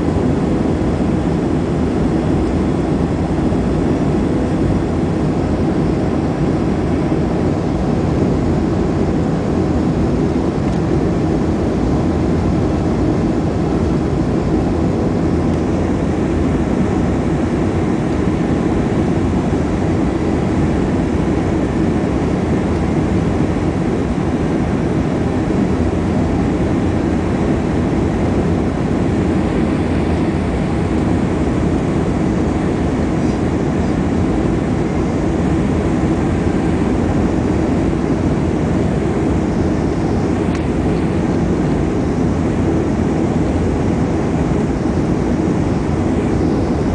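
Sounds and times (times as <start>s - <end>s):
airflow over aircraft cabin: 0.0s - 46.9s
turbofan engines: 0.0s - 46.9s.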